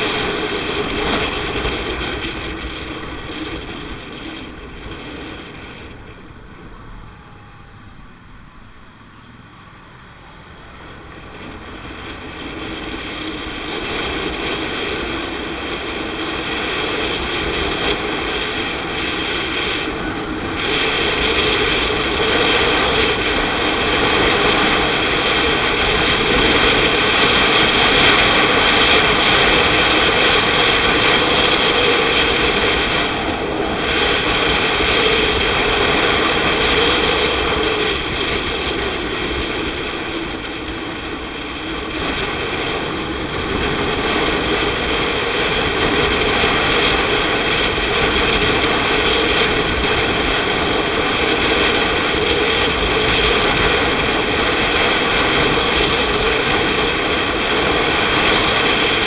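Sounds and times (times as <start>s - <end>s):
motorcycle engine: 0.0s - 59.0s
wind rushing: 0.0s - 59.0s.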